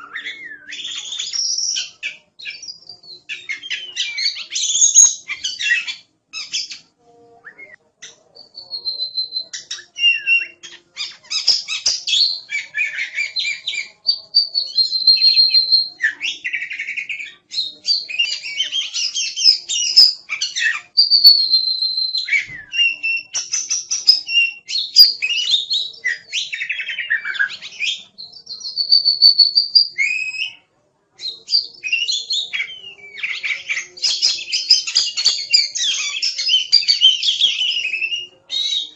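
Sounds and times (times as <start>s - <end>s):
songbird singing whistles and chirps: 0.0s - 38.9s.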